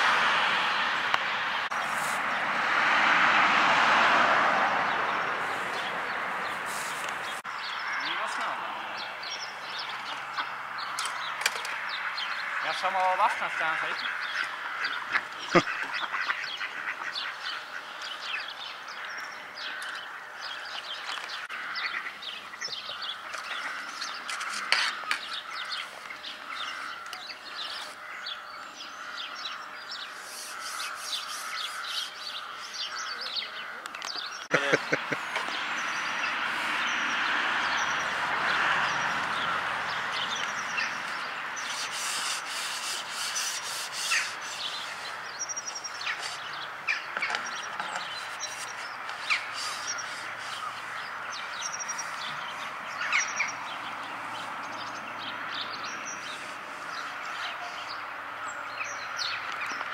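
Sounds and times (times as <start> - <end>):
small birds chirping: 4.7 - 59.9.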